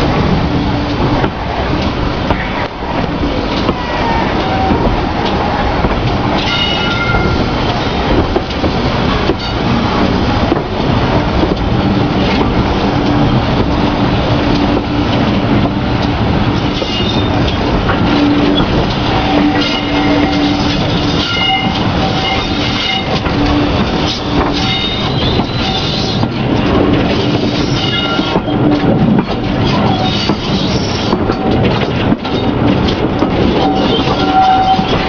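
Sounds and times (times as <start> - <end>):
train carriages rumbling on track: 0.0 - 35.0.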